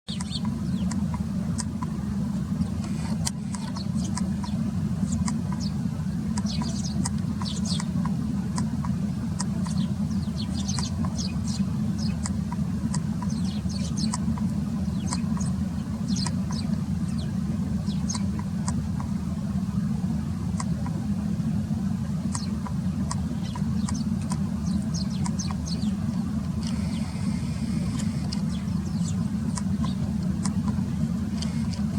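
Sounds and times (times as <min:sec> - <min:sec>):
sparrows chirping: 0:00.1 - 0:31.9
steady low rumble: 0:00.1 - 0:31.9.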